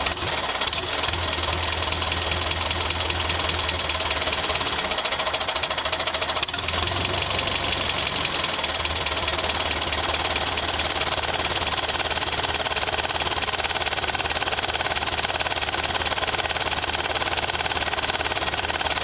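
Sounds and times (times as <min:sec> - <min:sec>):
toy tractor chugging: 0:00.0 - 0:19.0.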